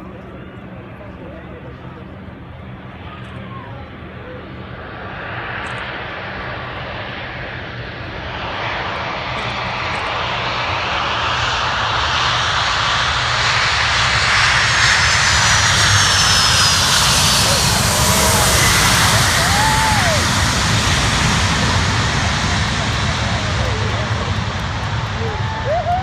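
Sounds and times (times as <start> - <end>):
jet engine roar: 0.0 - 26.0.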